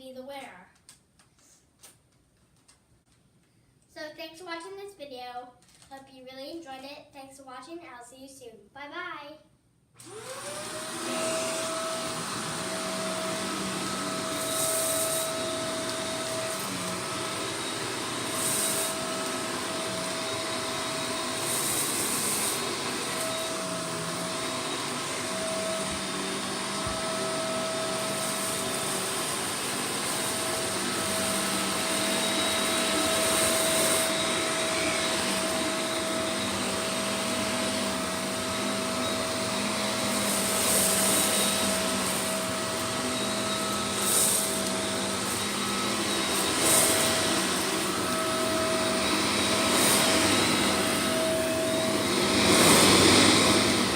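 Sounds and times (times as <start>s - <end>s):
vacuum cleaner running: 10.0s - 53.9s.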